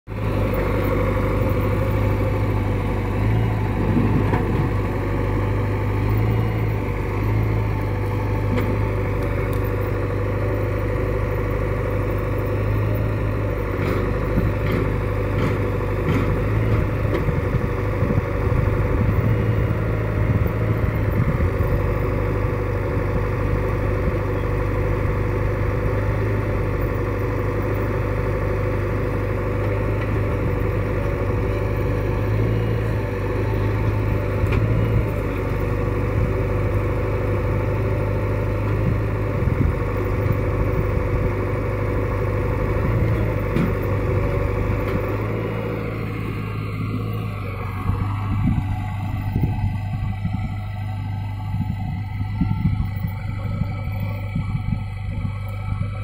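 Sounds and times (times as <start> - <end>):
backhoe digging and loading soil: 0.1 - 56.0
diesel engines running: 0.1 - 56.0.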